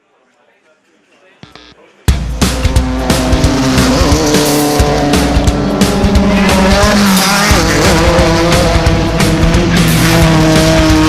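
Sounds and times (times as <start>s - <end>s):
loud rock music: 1.4s - 11.0s.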